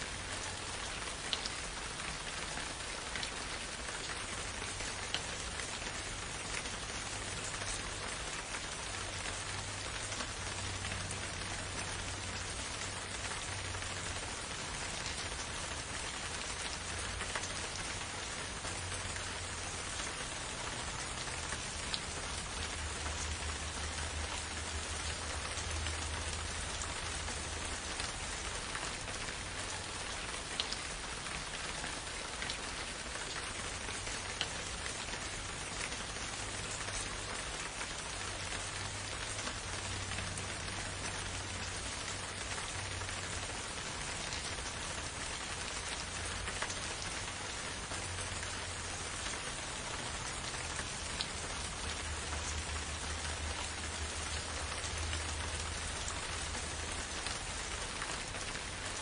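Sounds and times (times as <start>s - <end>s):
gentle rain: 0.0s - 59.0s.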